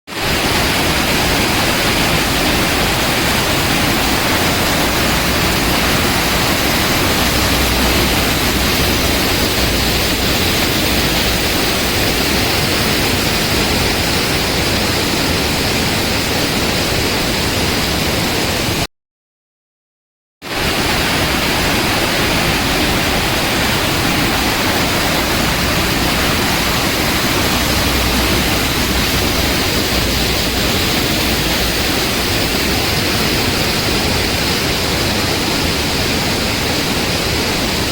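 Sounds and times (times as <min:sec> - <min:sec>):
roar of rushing water: 0:00.2 - 0:18.8, 0:20.5 - 0:37.9.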